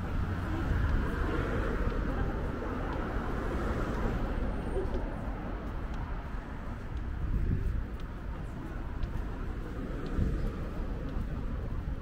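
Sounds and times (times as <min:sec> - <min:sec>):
low traffic rumbles: 0:00.0 - 0:12.0
steady traffic hum: 0:00.0 - 0:12.0.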